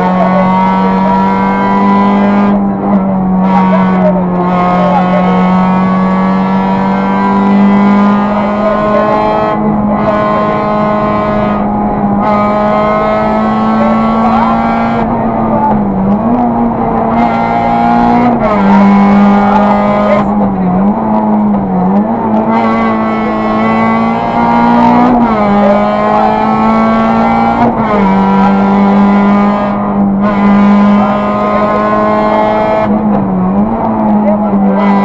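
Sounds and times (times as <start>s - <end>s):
car engine at high revs: 0.0s - 35.0s
road and tyre noise: 0.0s - 35.0s.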